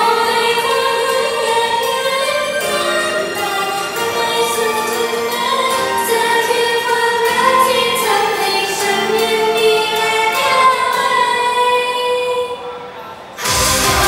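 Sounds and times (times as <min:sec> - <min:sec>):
pop song with woman singing: 0:00.0 - 0:12.6.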